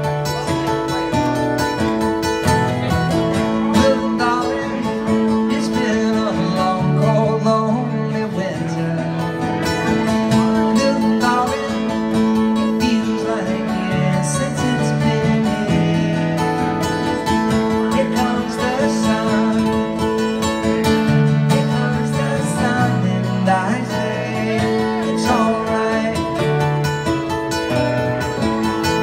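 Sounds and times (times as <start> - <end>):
amplified guitar music: 0.0 - 29.0.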